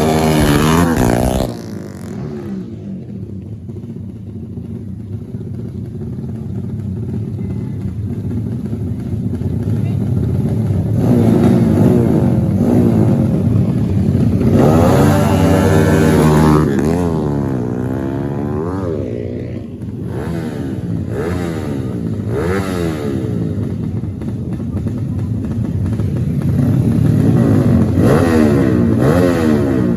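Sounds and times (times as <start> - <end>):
motorcycle engines revving: 0.0 - 29.9.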